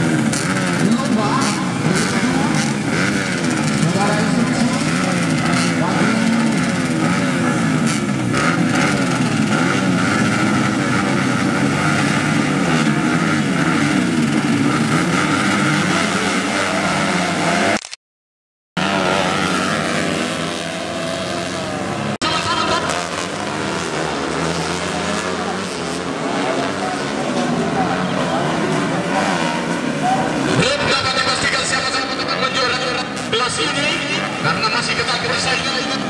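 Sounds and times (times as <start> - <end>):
motorcycles revving together: 0.0 - 17.8, 18.8 - 36.0.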